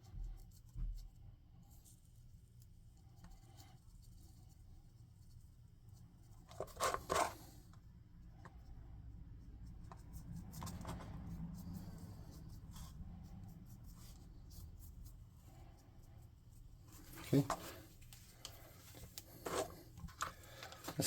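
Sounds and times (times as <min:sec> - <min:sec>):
scrapes and rustles: 0:00.2 - 0:07.8, 0:09.7 - 0:21.0.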